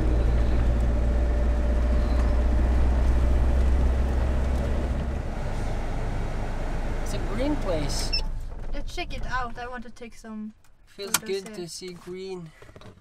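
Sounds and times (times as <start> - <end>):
road noise: 0.0 - 13.0
van engine rumble: 0.0 - 13.0.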